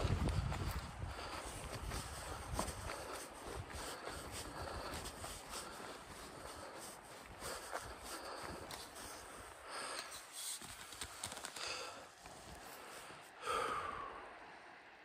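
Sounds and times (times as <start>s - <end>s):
footsteps: 0.0s - 13.3s
breathy voiced sound: 0.0s - 14.4s
person breathing: 0.0s - 14.4s.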